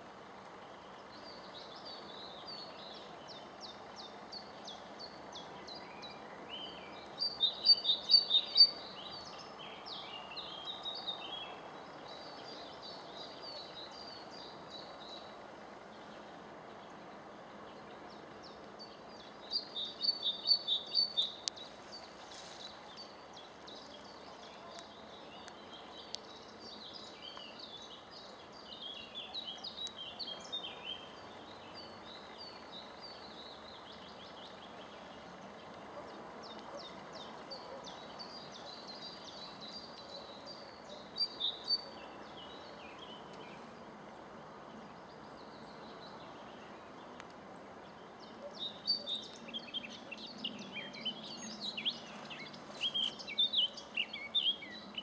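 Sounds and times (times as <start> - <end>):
songbirds twittering: 0.0 - 55.0.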